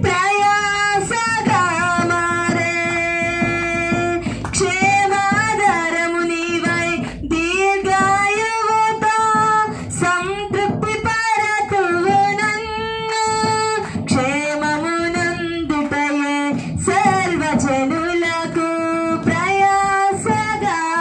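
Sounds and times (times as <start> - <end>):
woman singing a hymn: 0.0 - 21.0.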